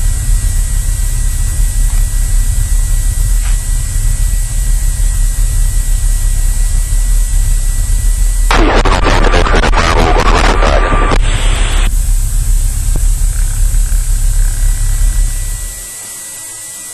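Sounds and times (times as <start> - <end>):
airplane engine and propeller: 0.0 - 16.1.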